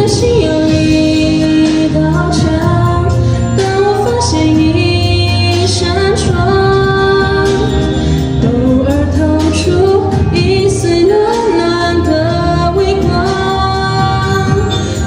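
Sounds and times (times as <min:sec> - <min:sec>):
woman singing pop ballad: 0:00.0 - 0:15.0.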